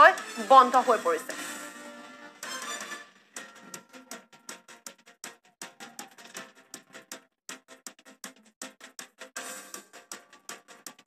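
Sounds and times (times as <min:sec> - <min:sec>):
faint news background music: 0:00.0 - 0:11.0.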